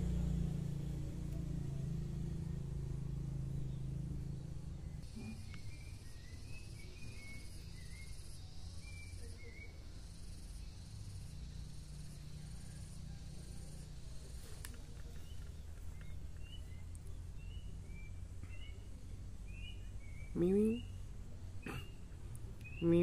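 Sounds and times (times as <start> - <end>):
vehicle rumble: 0.0 - 23.0
insects buzzing: 0.1 - 23.0.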